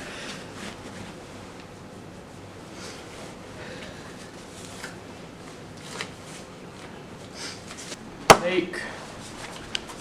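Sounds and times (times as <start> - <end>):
room tone hiss: 0.0 - 10.0.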